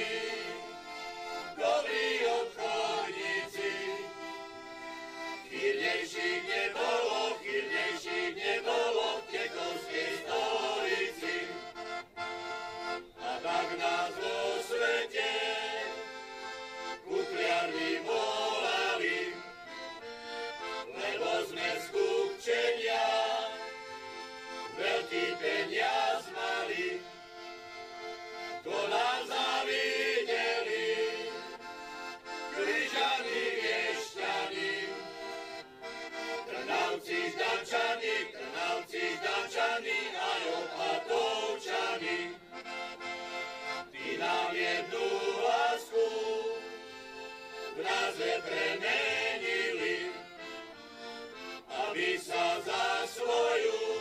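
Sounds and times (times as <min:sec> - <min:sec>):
piano accordion playing folk tune: 0:00.0 - 0:54.0.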